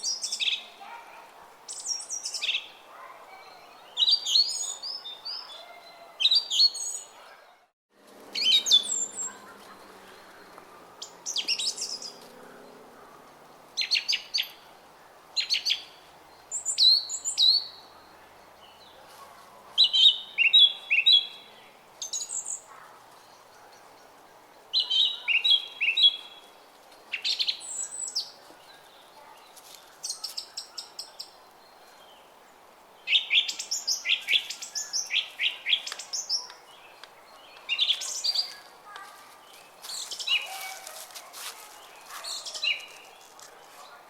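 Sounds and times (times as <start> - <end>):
songbirds chirping and singing: 0.0 - 7.7, 8.3 - 44.0.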